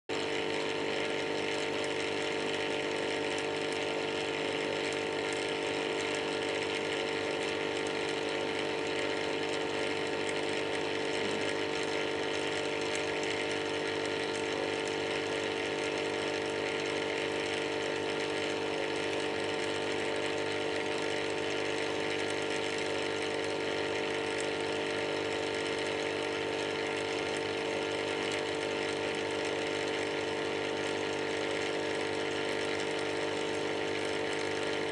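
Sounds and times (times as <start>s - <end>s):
air pump humming: 0.1s - 34.9s.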